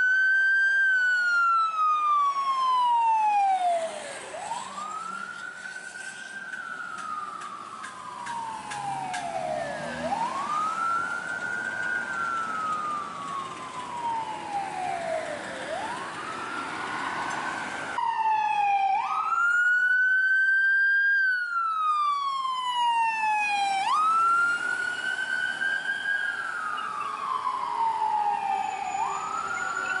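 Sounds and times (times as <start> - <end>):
electronic ambulance siren wail: 0.0 - 30.0
fire engine siren wailing: 0.0 - 30.0.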